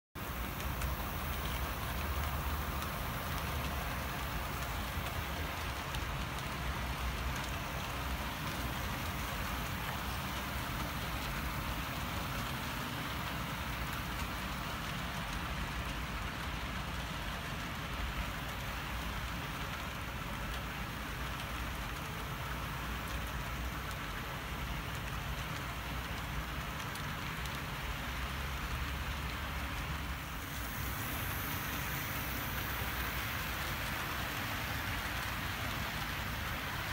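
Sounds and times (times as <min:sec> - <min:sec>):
model train wheels on rails: 0:00.2 - 0:36.9.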